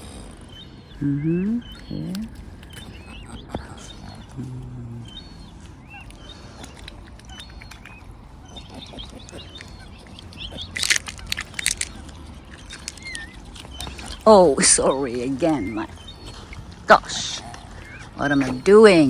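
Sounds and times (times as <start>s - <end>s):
waterbirds chirping: 0.0s - 19.0s
sharp crunching strokes: 2.1s - 19.0s.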